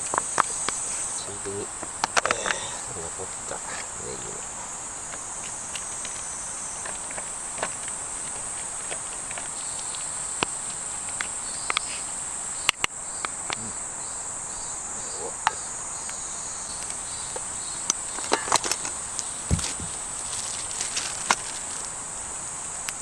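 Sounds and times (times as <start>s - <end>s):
high insect chorus: 0.0s - 23.0s.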